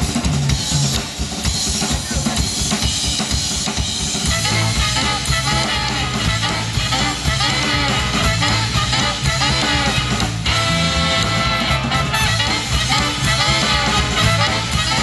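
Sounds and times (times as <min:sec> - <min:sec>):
live band with horn section: 0:00.0 - 0:15.0.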